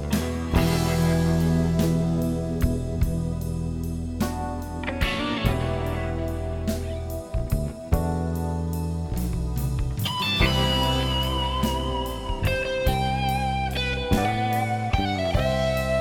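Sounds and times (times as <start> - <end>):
bass: 0.0 - 16.0
guitar bending notes: 0.0 - 16.0
regular beat: 0.0 - 16.0.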